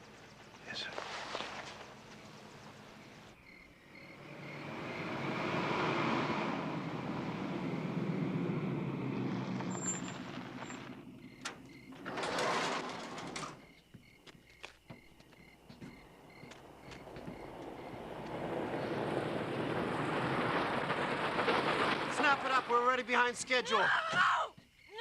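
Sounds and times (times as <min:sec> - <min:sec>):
vehicle engine and road noise: 0:00.0 - 0:23.6
crickets chirping: 0:00.0 - 0:25.0.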